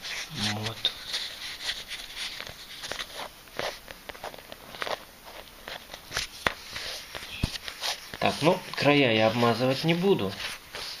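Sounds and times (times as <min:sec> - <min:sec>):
fingers rubbing vinyl: 0:00.0 - 0:11.0.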